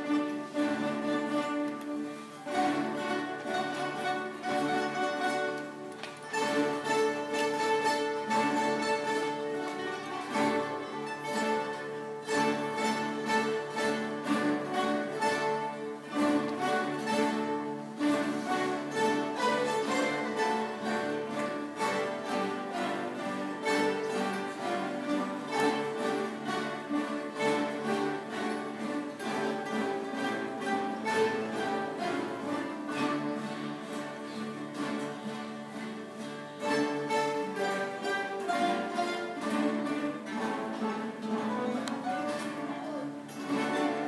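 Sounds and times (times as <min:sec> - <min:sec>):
acoustic guitar ensemble playing: 0:00.0 - 0:44.0.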